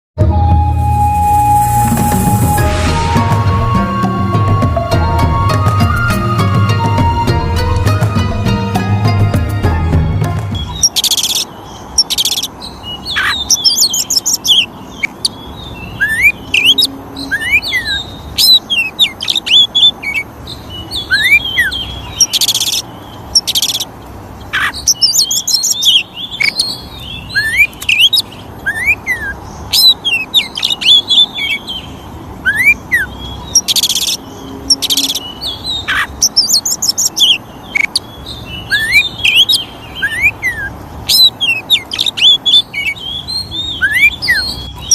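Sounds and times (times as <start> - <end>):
bird singing whistled song: 0.2 - 7.7, 10.5 - 23.9, 24.6 - 44.9.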